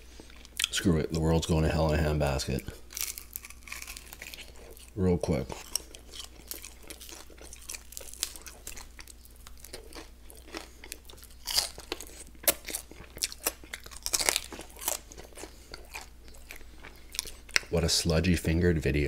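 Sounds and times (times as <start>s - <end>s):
chewing and crunching: 0.2s - 17.8s.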